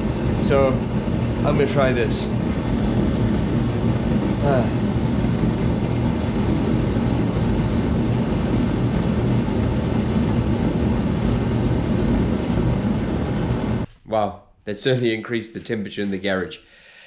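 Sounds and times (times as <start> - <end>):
gas burner flame roaring: 0.0 - 13.9.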